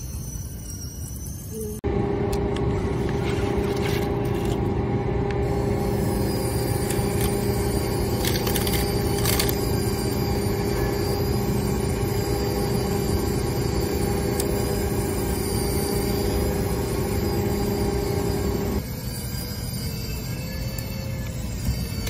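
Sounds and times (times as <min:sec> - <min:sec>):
robot drive motors whining: 0:00.0 - 0:22.0.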